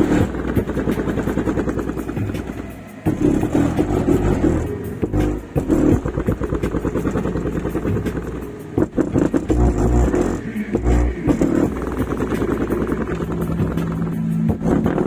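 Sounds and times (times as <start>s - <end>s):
dense buzzing rattle: 0.0s - 15.0s
subwoofer playing deep bass music: 0.0s - 15.0s.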